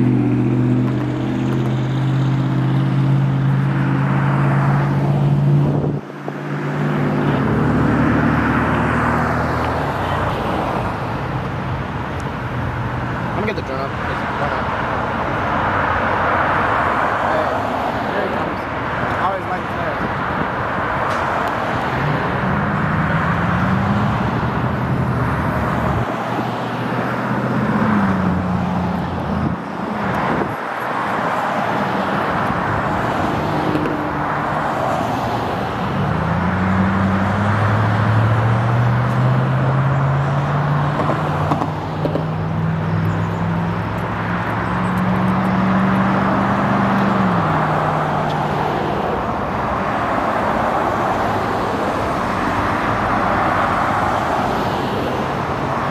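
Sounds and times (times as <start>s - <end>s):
engine hum of passing vehicles: 0.0s - 55.9s
tyres rushing on road: 0.0s - 55.9s.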